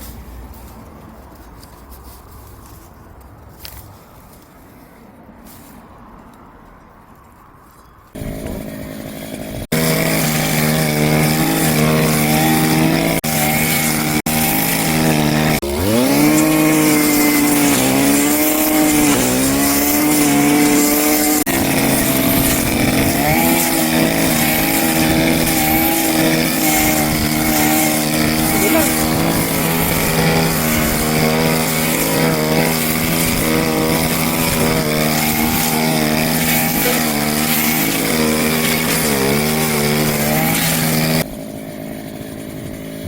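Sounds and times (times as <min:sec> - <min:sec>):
brush cutter engine cutting grass: 0:08.1 - 0:43.0.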